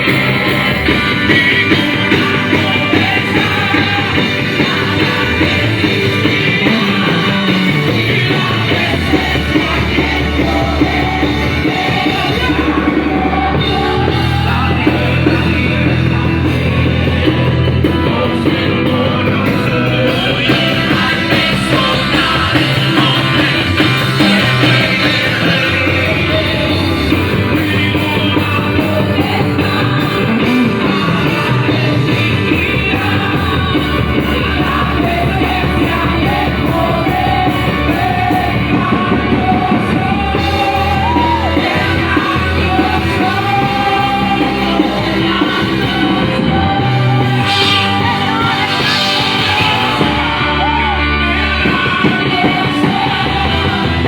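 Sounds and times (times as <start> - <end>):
band playing loud rock music: 0.0 - 54.0
drum kit: 0.0 - 54.0
person singing: 0.0 - 54.0.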